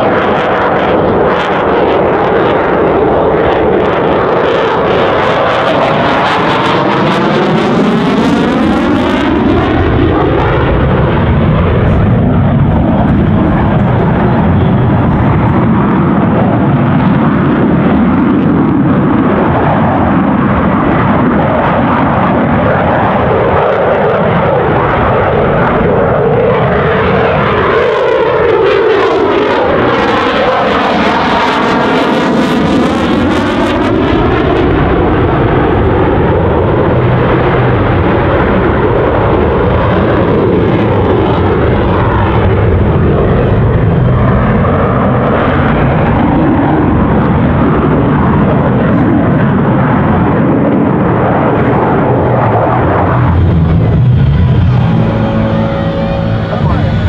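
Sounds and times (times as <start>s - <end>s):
jet engine roar: 0.0s - 57.0s.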